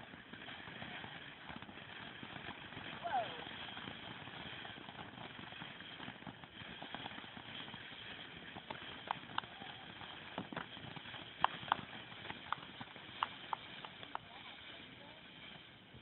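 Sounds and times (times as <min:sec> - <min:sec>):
fireworks crackling: 0:00.0 - 0:16.0
outdoor hiss: 0:00.0 - 0:16.0.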